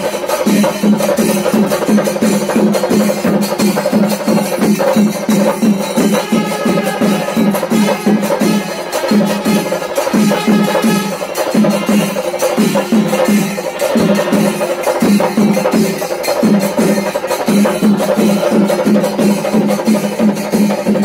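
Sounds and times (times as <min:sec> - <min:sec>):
drums beaten in steady rhythm: 0:00.0 - 0:21.0.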